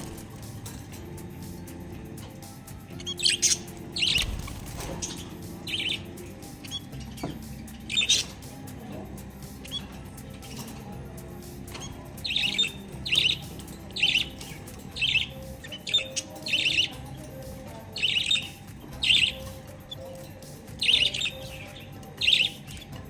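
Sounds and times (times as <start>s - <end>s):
lovebirds chirping: 0.0s - 23.0s.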